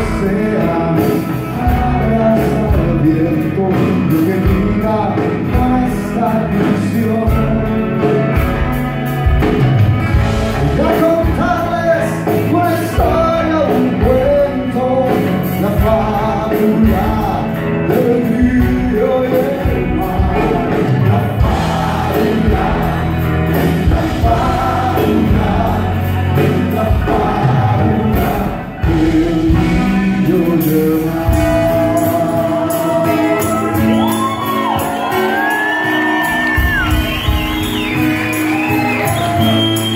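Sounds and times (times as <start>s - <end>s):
person singing: 0.0s - 8.3s, 10.5s - 37.6s
live band playing: 0.0s - 39.9s.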